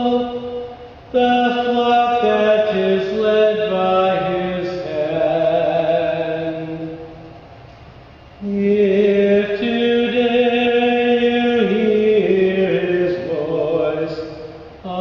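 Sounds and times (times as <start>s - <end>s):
person chanting wordless melody: 0.0s - 7.3s, 8.4s - 15.0s.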